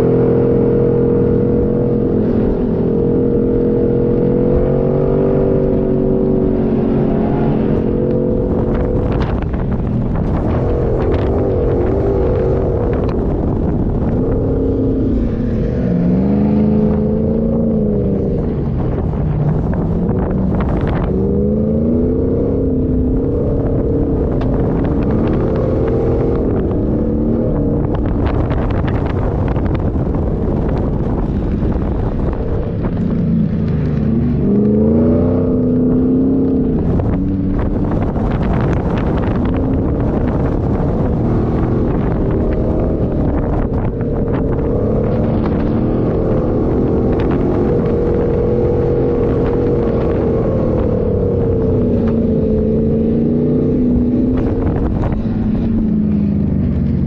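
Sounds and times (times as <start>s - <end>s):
car engine revving: 0.0s - 57.0s
wind: 0.0s - 57.0s.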